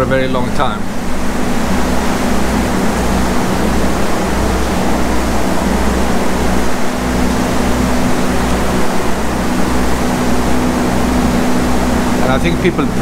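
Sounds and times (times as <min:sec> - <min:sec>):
electric fans running: 0:00.0 - 0:13.0
low pulsing rumble: 0:00.0 - 0:13.0.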